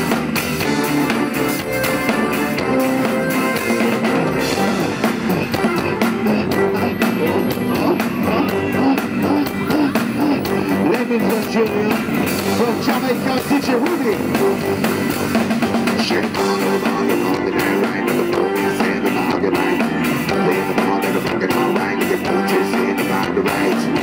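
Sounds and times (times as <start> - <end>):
drum kit: 0.0 - 24.0
electric guitars: 0.0 - 24.0
man singing: 3.6 - 15.1, 15.8 - 24.0.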